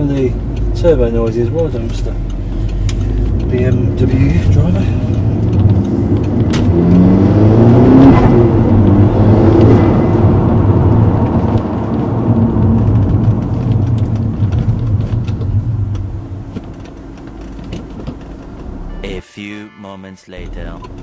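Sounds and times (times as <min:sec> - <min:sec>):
car engine accelerating: 0:00.0 - 0:19.2.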